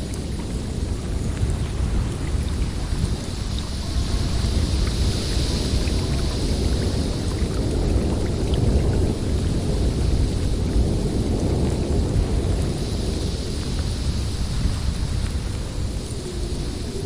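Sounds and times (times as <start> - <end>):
wind rushing through forest: 0.0 - 17.0.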